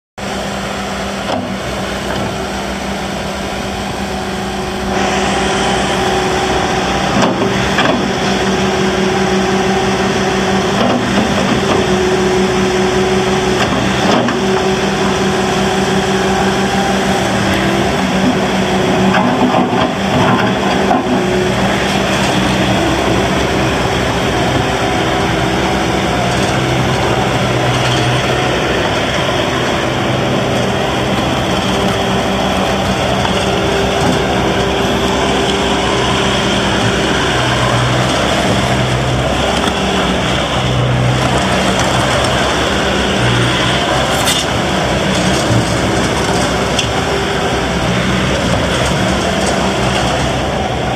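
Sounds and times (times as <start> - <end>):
diesel engine running: 0.2 - 50.9.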